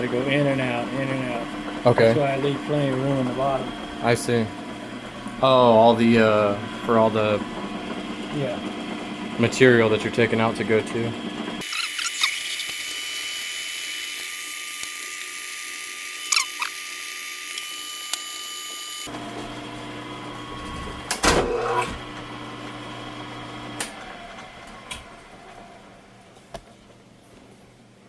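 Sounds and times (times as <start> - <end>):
drilling machine whine: 0.0 - 26.1
machine hum: 0.0 - 26.4.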